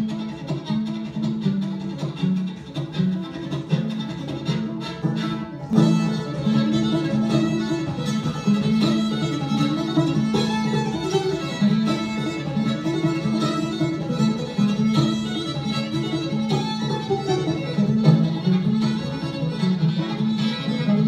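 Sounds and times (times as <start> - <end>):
banjo picking: 0.0 - 21.0
fiddle playing lively tune: 0.0 - 21.0.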